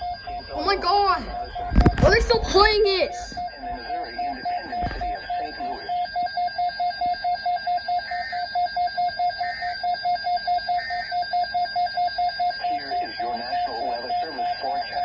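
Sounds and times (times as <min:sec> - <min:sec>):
electronic alarm beeping rapidly: 0:00.0 - 0:15.0.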